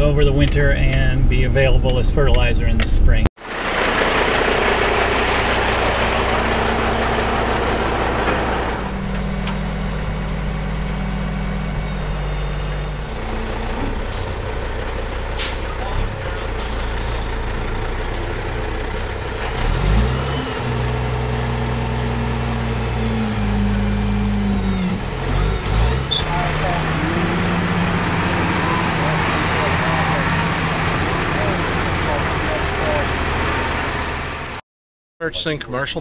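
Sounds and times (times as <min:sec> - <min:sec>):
heavy vehicle engine humming: 0:03.4 - 0:34.6.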